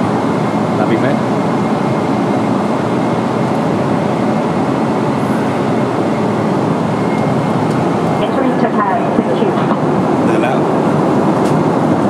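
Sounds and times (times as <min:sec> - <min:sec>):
airliner cabin noise in flight: 0:00.0 - 0:12.0.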